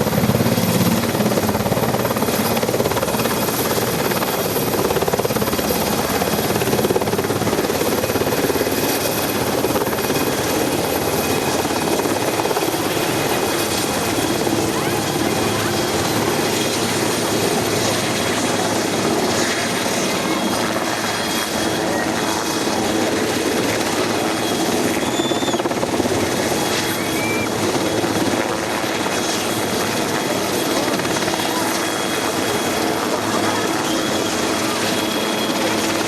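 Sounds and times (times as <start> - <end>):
distant helicopter drone: 0.0 - 36.0.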